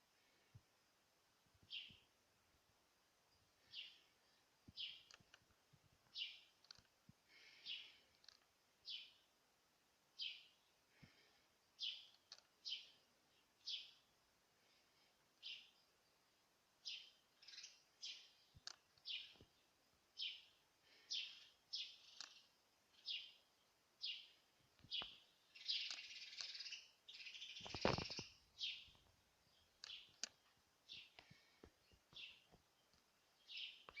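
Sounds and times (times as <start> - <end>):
small bird chirping: 1.6 - 2.2, 3.2 - 9.3, 10.1 - 14.8, 15.4 - 34.0.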